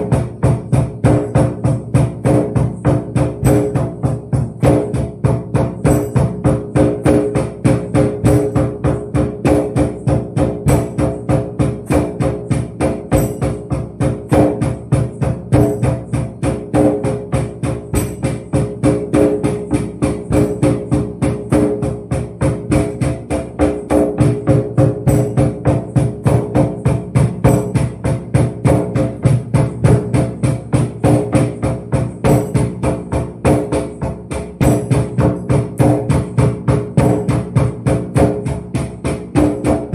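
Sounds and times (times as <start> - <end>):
drum thuds with jingles: 0.0 - 39.9.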